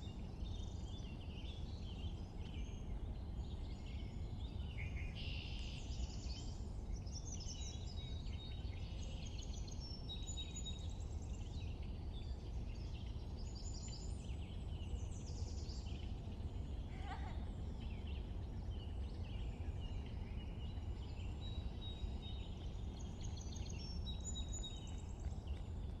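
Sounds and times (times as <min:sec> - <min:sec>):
small birds chirping and trilling: 0:00.0 - 0:26.0
steady low background rumble: 0:00.0 - 0:26.0.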